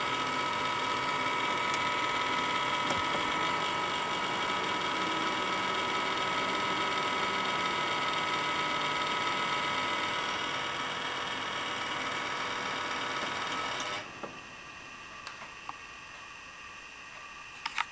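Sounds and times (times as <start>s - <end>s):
computer high-pitched whine: 0.0s - 17.9s.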